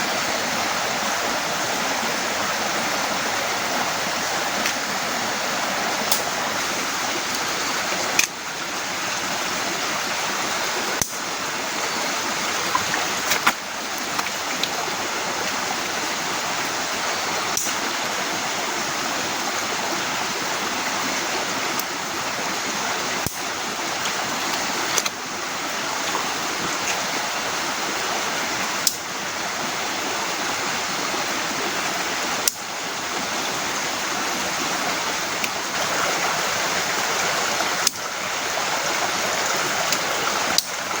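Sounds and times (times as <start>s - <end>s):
heavy rain hissing: 0.0s - 41.0s.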